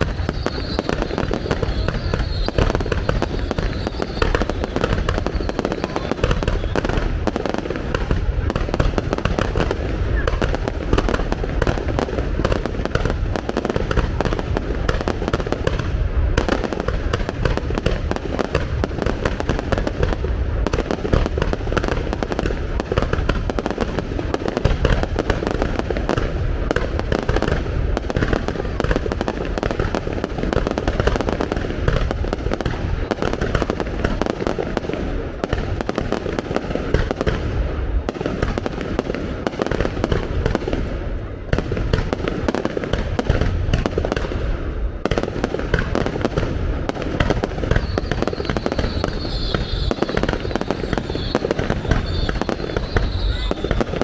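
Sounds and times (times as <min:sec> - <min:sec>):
fireworks bursts and bangs: 0:00.0 - 0:54.0.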